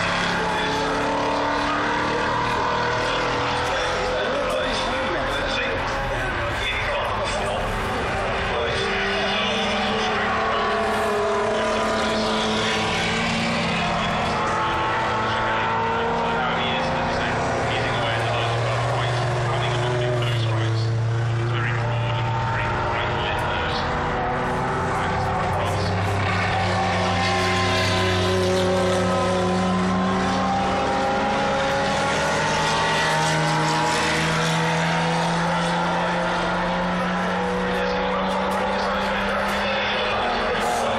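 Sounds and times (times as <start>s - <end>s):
racing car engines: 0.0s - 40.9s.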